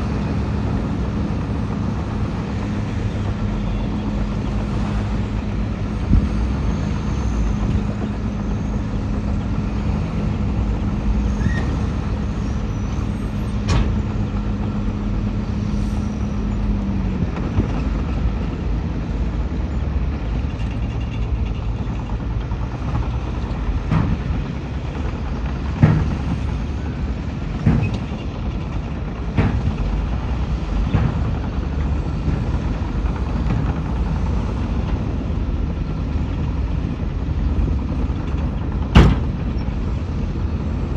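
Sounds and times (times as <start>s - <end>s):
heavy diesel machinery running: 0.0s - 40.9s.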